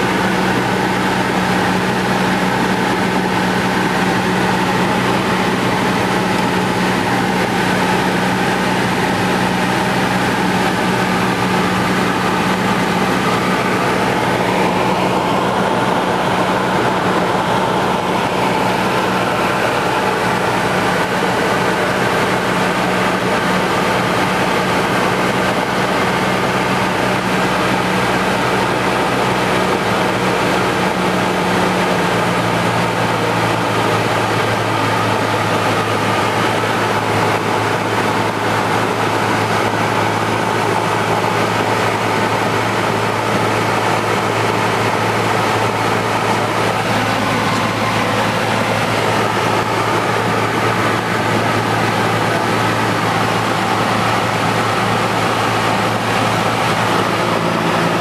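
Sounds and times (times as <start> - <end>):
air rushing over airframe: 0.0 - 32.2, 33.5 - 58.0
propeller plane engine droning: 0.0 - 58.0.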